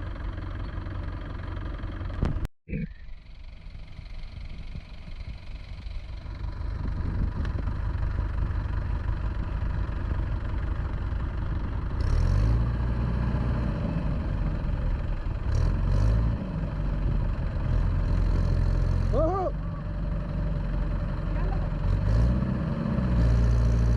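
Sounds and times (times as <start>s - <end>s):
diesel tractor engine under load: 0.0s - 23.9s.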